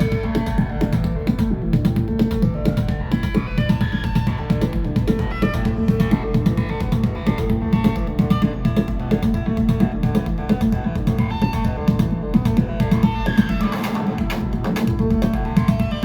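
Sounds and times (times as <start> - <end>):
fast synth drum rhythm: 0.0 - 16.0
plucked synth melody: 0.0 - 16.0.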